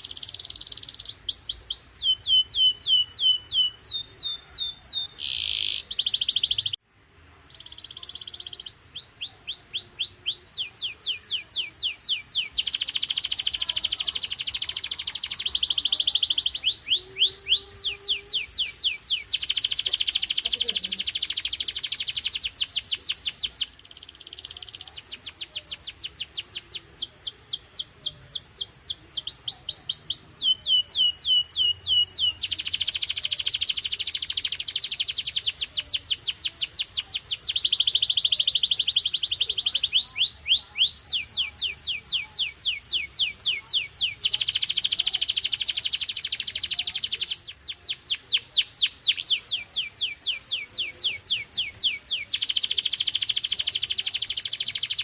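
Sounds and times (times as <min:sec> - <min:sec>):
canary singing: 0:00.0 - 0:06.8, 0:07.4 - 0:55.0.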